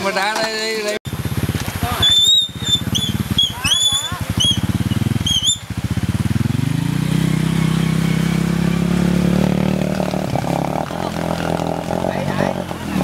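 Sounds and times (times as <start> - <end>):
motorcycle engine revving: 1.1 - 13.0.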